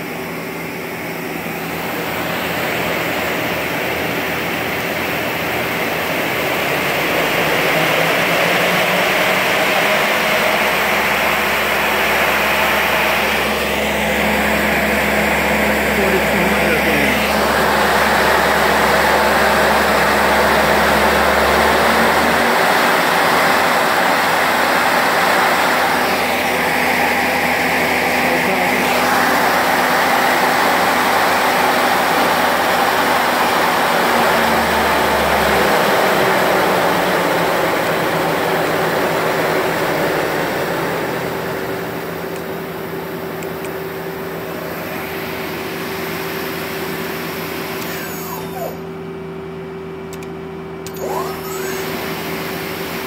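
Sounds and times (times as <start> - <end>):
lathe spindle whirring: 0.0 - 48.9.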